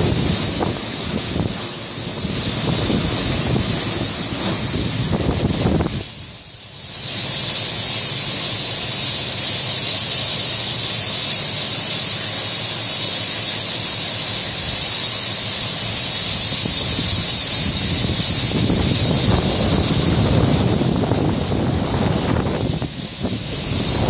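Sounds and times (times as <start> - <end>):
spray nozzles hissing: 0.0 - 24.0.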